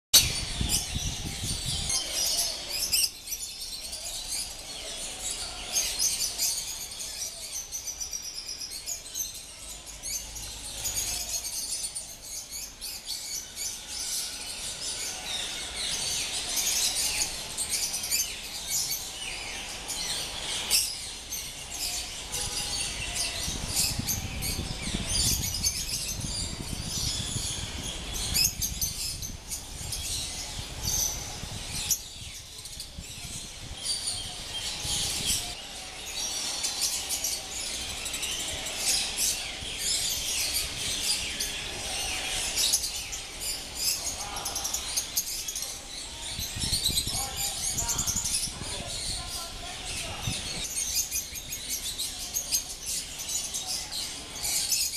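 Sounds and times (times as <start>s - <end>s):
birds chirping and twittering: 0.1s - 54.9s.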